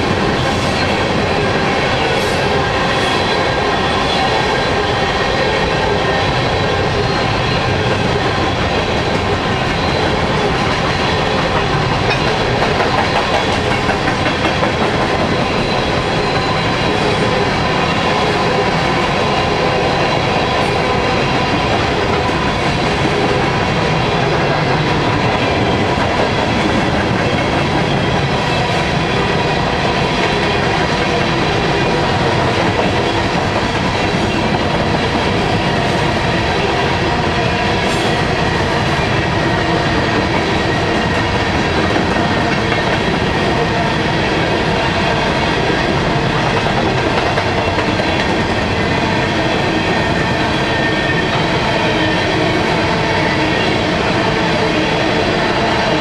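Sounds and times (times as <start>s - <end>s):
clickety-clack over rail joints: 0.0s - 53.1s
train wheels rumbling on rails: 0.0s - 56.0s.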